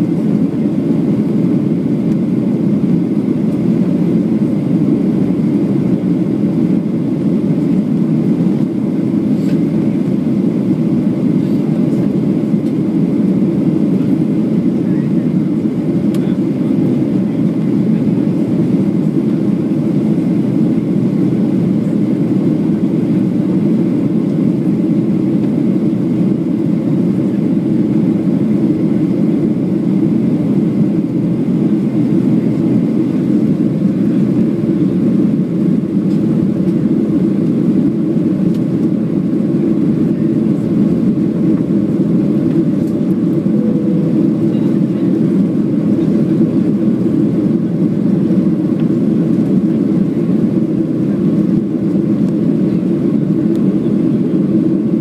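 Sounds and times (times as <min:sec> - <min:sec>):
airplane cabin engine noise: 0:00.0 - 0:55.0.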